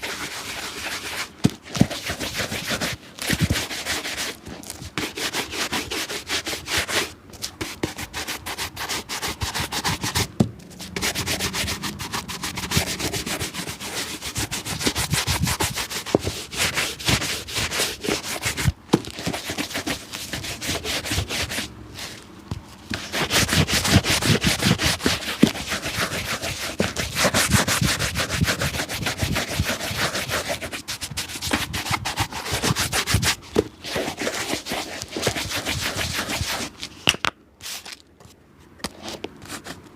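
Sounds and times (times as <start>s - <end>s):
scrubbing strokes on a shoe: 0.0s - 36.9s.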